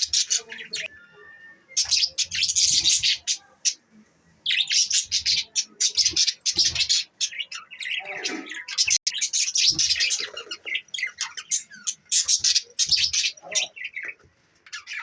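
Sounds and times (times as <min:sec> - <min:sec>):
budgerigars chattering and chirping: 0:00.0 - 0:00.9, 0:01.8 - 0:03.8, 0:04.5 - 0:15.0.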